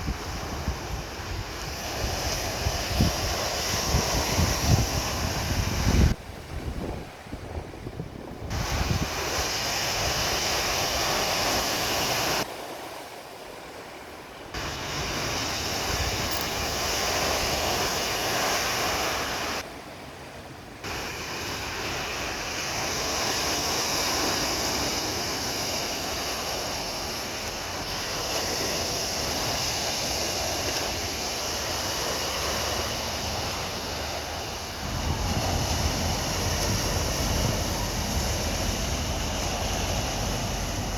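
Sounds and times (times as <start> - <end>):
wind on microphone: 0.0 - 12.5, 14.6 - 19.6, 20.9 - 40.9
sea surf rushing: 0.0 - 40.9.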